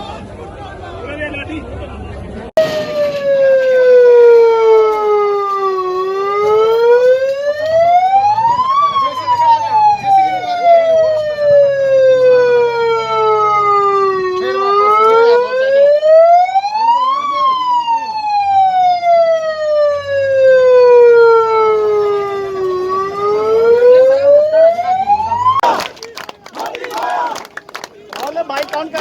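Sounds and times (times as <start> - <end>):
siren wailing: 2.6 - 25.8.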